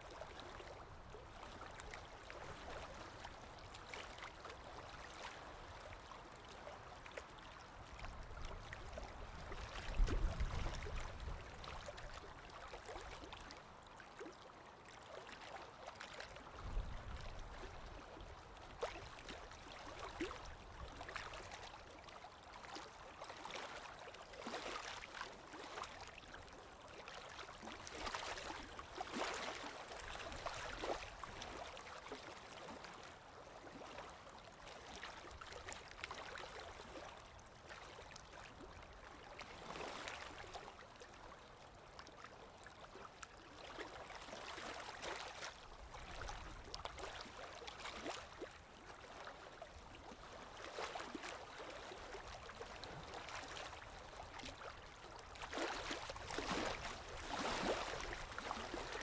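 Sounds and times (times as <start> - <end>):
stream babbling and splashing: 0.0 - 59.0.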